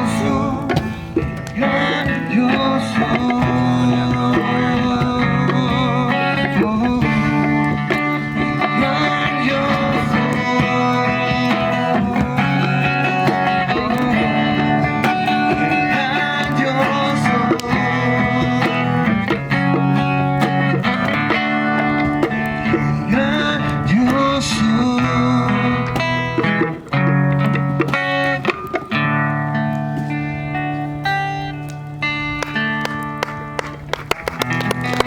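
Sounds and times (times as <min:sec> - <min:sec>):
guitar-led music: 0:00.0 - 0:35.0.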